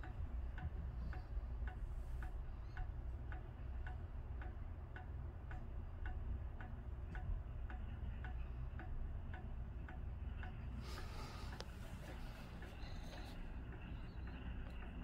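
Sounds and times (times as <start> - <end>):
low steady hum: 0.0 - 15.0
steady ticking: 0.0 - 15.0.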